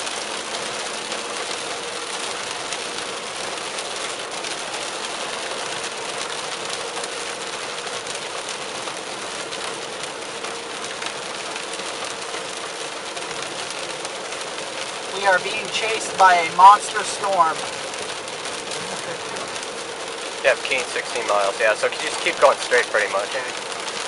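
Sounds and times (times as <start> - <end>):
heavy rain on car roof: 0.0 - 24.0.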